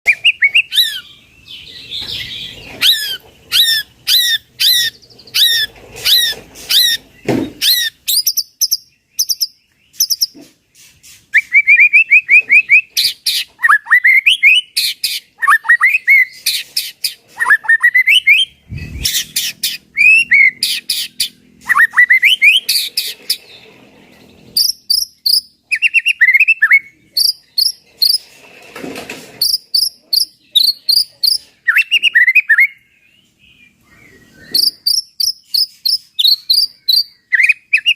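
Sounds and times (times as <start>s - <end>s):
songbird singing whistles: 0.0s - 10.4s, 11.1s - 22.9s, 24.6s - 28.2s, 29.4s - 33.0s, 33.6s - 37.9s.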